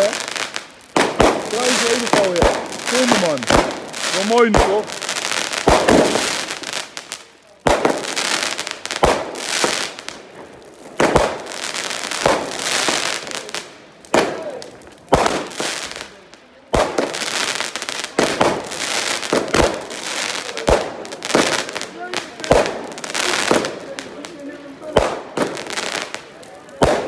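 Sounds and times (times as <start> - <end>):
fireworks banging: 0.0 - 27.0
fireworks crackling and hissing: 0.0 - 27.0.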